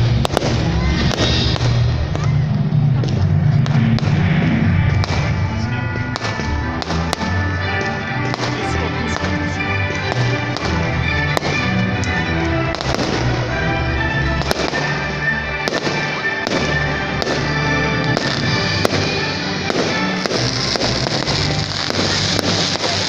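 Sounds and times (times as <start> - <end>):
fireworks bangs: 0.0 - 23.0
music with sustained notes: 0.0 - 23.0.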